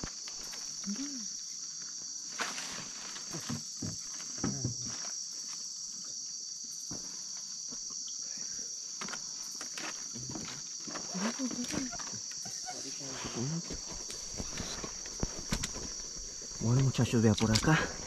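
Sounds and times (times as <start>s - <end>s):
night insects droning: 0.0s - 18.0s.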